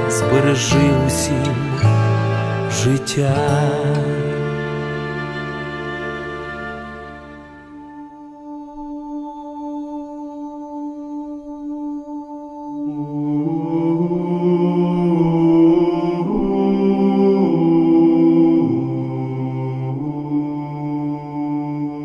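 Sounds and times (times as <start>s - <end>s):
wordless choral singing: 0.0s - 22.0s.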